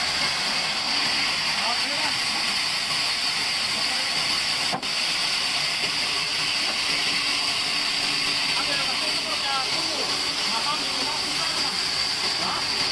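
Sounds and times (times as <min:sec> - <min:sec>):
band saw cutting log: 0:00.0 - 0:12.9.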